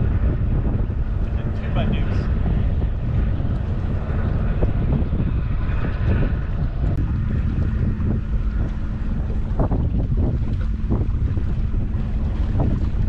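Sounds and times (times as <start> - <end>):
water lapping against hull: 0.0 - 13.0
wind buffeting microphone: 0.0 - 13.0.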